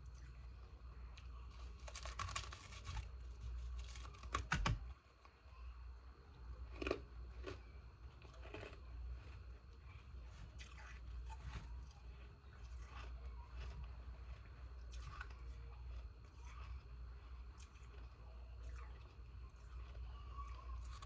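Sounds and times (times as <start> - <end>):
ice being chewed: 1.0 - 4.3, 6.6 - 21.0.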